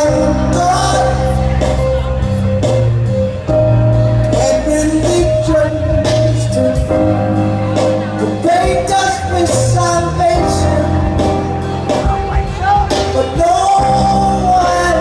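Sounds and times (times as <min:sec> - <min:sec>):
man singing: 0:00.0 - 0:02.3, 0:04.1 - 0:15.0
live band music: 0:00.0 - 0:15.0.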